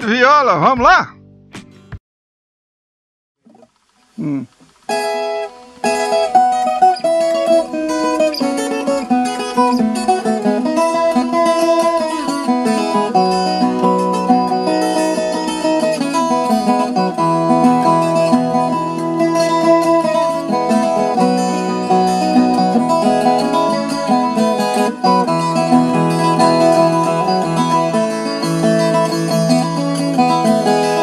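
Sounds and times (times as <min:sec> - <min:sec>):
plucked folk guitar melody: 0:00.0 - 0:02.0, 0:03.4 - 0:31.0.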